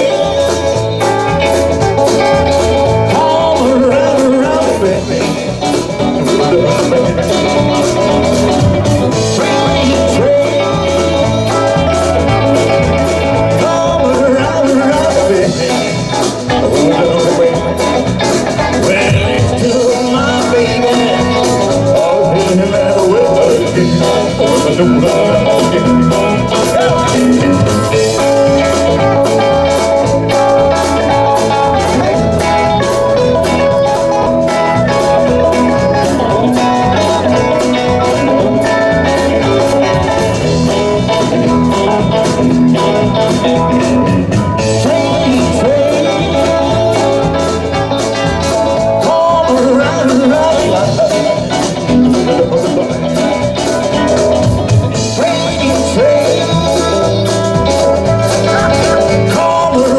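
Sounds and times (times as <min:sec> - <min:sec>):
person singing: 0:00.0 - 0:59.9
rock band playing live: 0:00.0 - 0:59.9.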